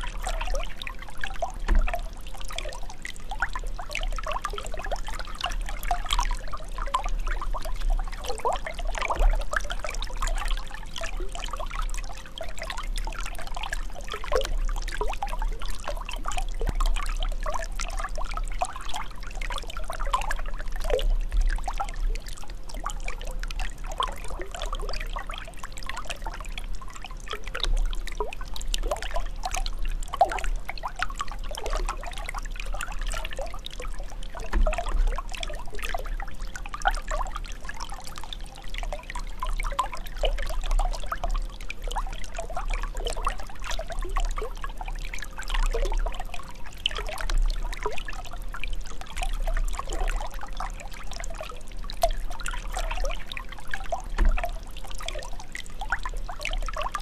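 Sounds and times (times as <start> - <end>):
faint steady hum: 0.0 - 57.0
water trickling and pouring: 0.0 - 57.0.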